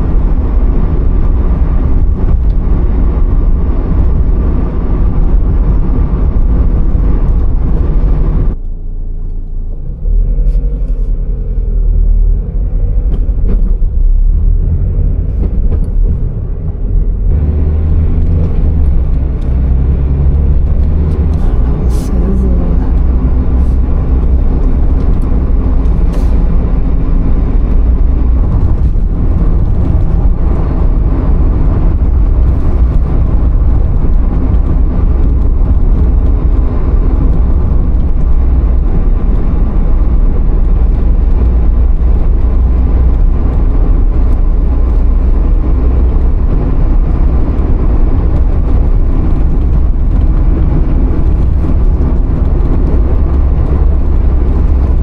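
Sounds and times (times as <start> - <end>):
car rumbling in motion: 0.0 - 55.0.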